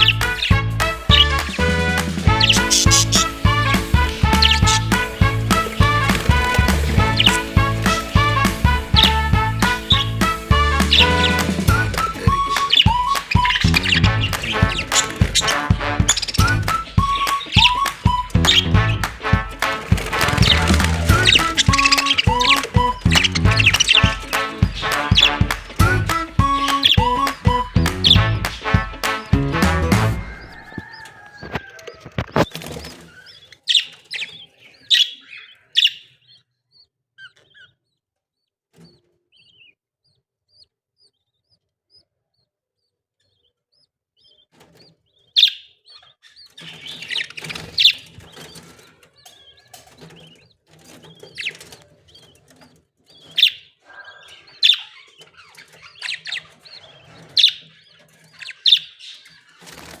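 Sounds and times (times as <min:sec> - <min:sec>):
baby parrots chirping: 0:00.0 - 0:28.3, 0:30.2 - 1:00.0.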